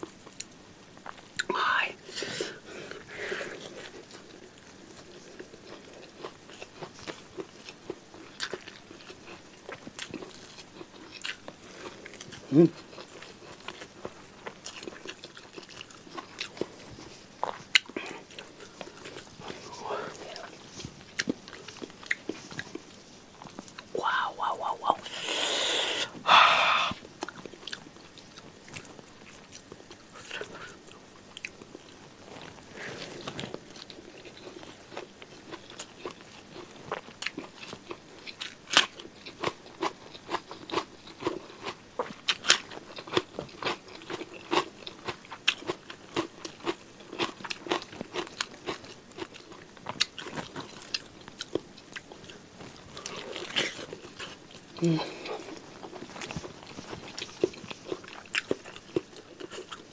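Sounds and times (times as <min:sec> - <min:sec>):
chewing and crunching cucumber: 0:02.9 - 0:24.0, 0:27.0 - 0:59.9.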